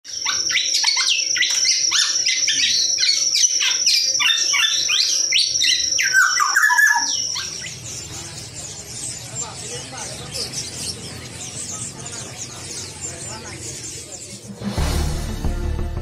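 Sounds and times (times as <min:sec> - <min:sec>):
songbird singing: 0:00.0 - 0:14.8.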